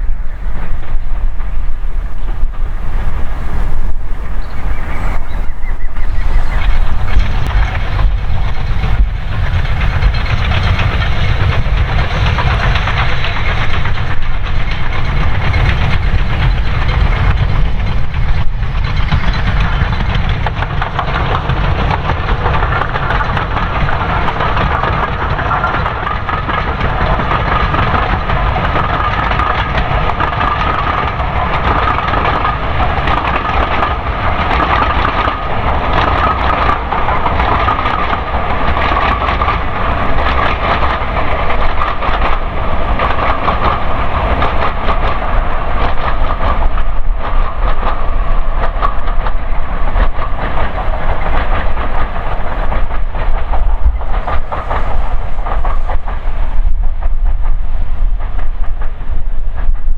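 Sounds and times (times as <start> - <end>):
steam train rumble and hiss: 0.0 - 59.9
train wheels clattering over rail joints: 0.0 - 59.9.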